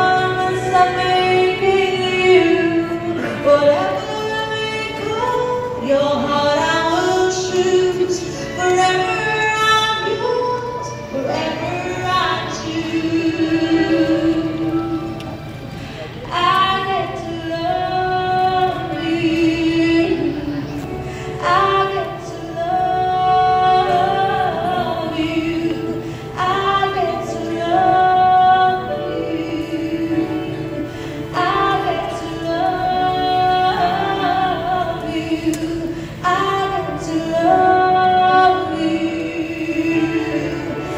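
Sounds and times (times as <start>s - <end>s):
woman singing into microphone: 0.0s - 40.9s.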